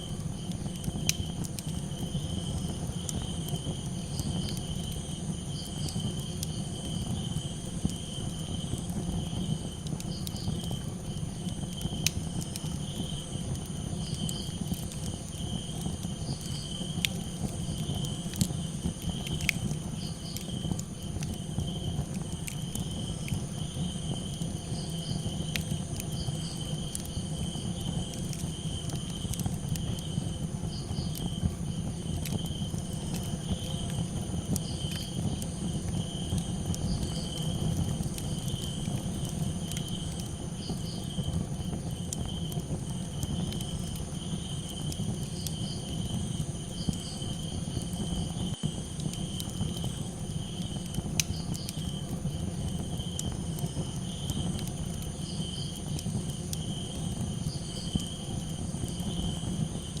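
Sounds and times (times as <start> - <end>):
campfire crackling and popping: 0.0 - 60.0
constant low rumble: 0.0 - 60.0
crickets chirping: 0.0 - 60.0.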